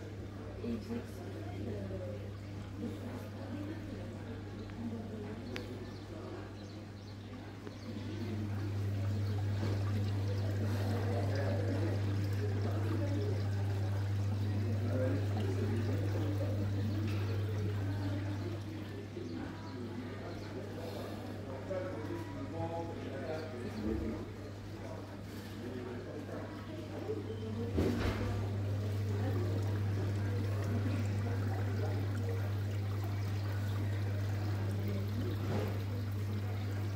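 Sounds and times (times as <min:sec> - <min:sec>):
low electrical hum: 0:00.0 - 0:36.9
trickling water: 0:00.1 - 0:36.9
indistinct murmur: 0:02.5 - 0:22.2, 0:23.5 - 0:36.9.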